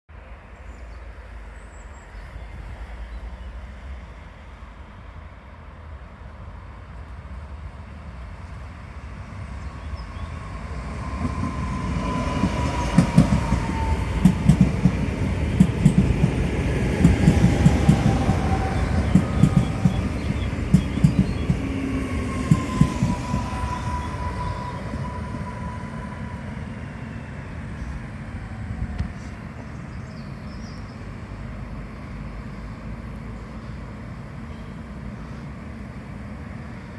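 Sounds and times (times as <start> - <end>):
electric train rumble: 0.2 - 36.9.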